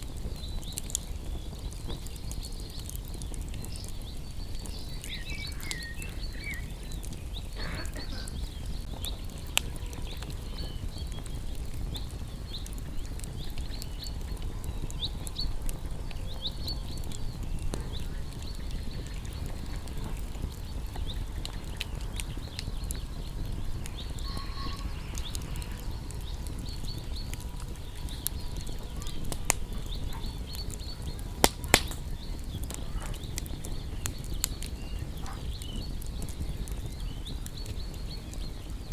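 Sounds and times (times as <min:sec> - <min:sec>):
low rumble of fire: 0:00.0 - 0:38.9
songbirds chirping: 0:00.0 - 0:38.9
wood fire crackling: 0:00.0 - 0:38.9.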